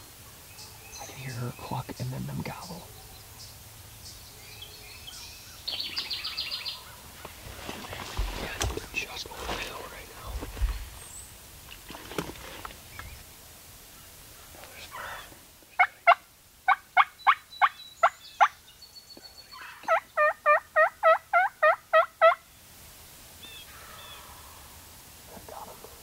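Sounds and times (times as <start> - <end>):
wild turkeys calling: 0.0 - 11.5, 12.8 - 22.6, 23.4 - 24.9.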